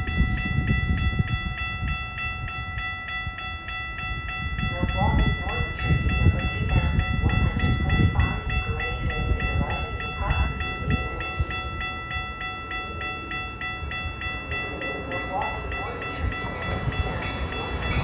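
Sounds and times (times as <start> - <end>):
crossing warning bells ringing: 0.0 - 18.0.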